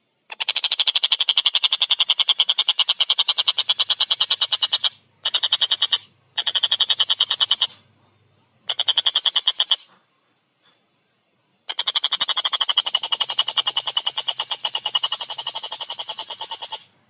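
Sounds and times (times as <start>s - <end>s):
kingfisher chattering call: 0.3s - 7.8s, 8.7s - 9.9s, 11.7s - 16.9s.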